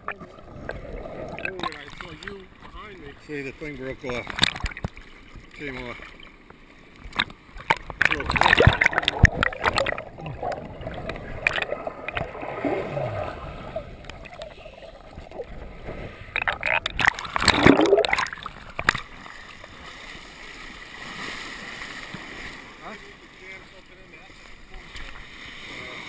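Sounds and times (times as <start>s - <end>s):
churning surf water: 0.0s - 26.0s.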